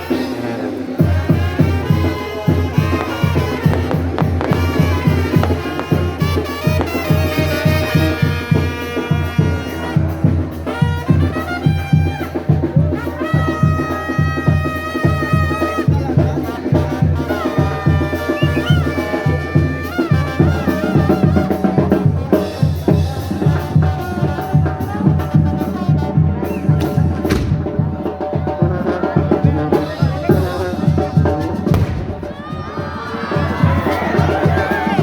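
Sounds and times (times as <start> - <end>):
brass band playing: 0.0 - 35.0
bass and drum beat: 0.9 - 35.0.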